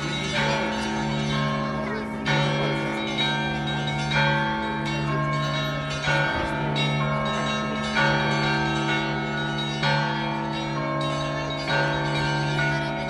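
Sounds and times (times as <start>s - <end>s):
high church bells struck: 0.0s - 13.0s
low bells humming: 0.0s - 13.0s.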